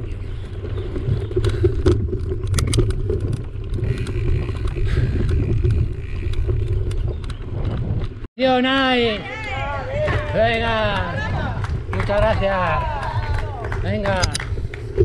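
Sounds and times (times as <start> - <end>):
bike clicks and rattles: 0.0 - 8.3, 10.0 - 15.0
wind and tyres on dirt: 0.0 - 15.0.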